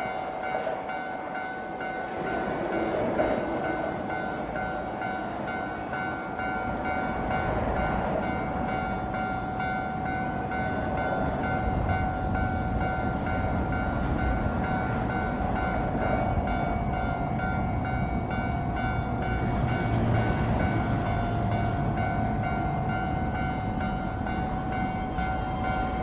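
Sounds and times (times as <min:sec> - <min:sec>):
level crossing bell clanging: 0:00.0 - 0:26.0.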